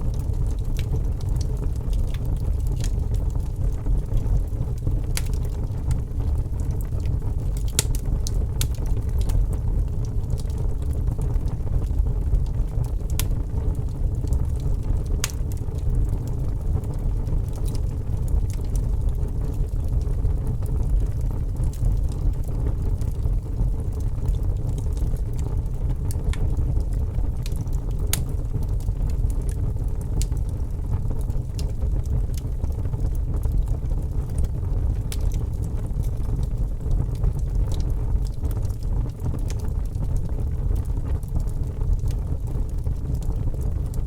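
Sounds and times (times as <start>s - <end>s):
fire crackling and popping: 0.0s - 44.0s
flames rumbling: 0.0s - 44.0s.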